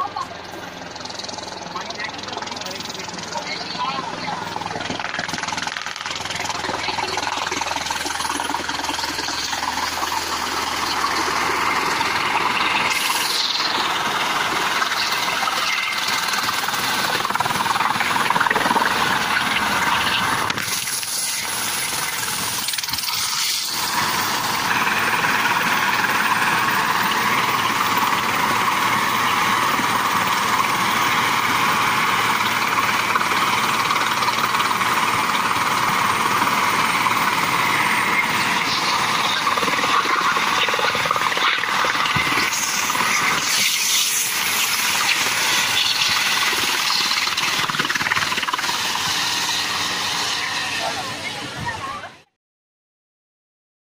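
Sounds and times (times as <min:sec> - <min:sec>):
helicopter turbine whine: 0:00.0 - 0:52.1
helicopter rotor noise: 0:00.0 - 0:52.3.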